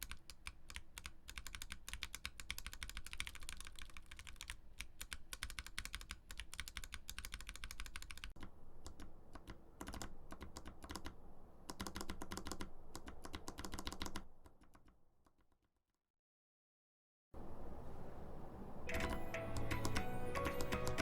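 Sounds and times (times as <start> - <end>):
fast mechanical keyboard typing: 0.0 - 14.9, 18.9 - 21.0.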